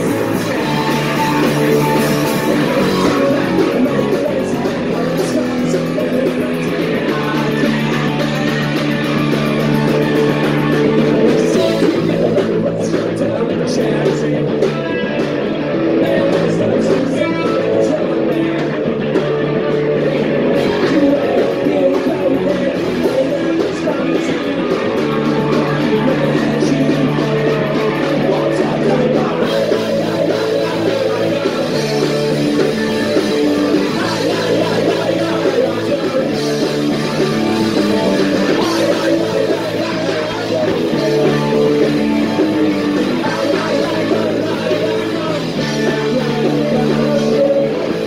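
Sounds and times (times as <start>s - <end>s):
loud electric guitar: 0.0s - 48.0s
person singing: 0.0s - 48.0s
punk rock band playing live: 0.0s - 48.0s.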